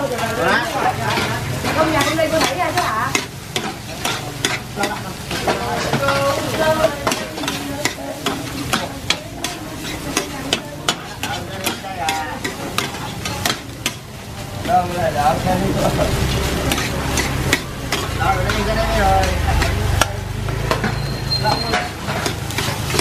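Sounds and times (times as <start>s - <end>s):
metal ladles scraping a pan: 0.0s - 23.0s
rice sizzling in a pan: 0.0s - 23.0s.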